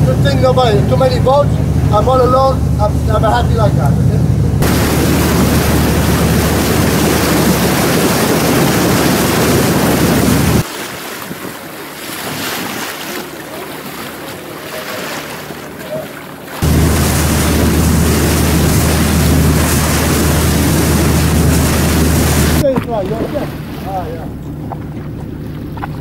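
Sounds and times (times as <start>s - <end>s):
boat engine humming: 0.0s - 10.7s, 12.9s - 26.0s
wind buffeting microphone: 0.0s - 12.8s, 16.6s - 26.0s
sea water washing: 0.0s - 26.0s.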